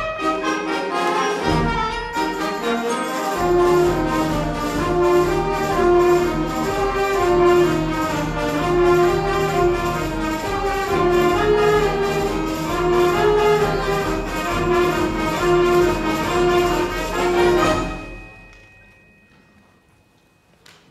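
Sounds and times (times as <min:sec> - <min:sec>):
saxophones and brass band playing: 0:00.0 - 0:18.3.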